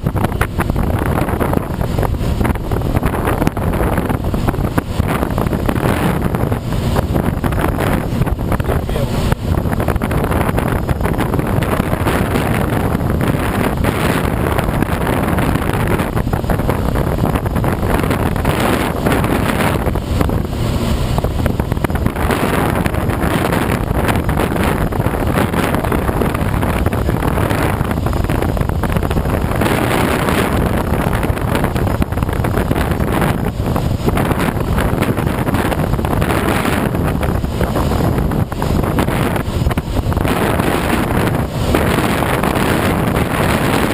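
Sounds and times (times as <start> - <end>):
wind noise around glider cockpit: 0.0 - 43.9.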